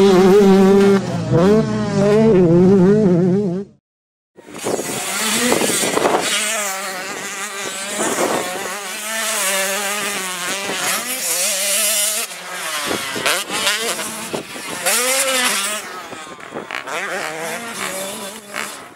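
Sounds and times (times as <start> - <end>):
two-stroke motocross engines revving: 0.0 - 3.8, 4.4 - 18.9.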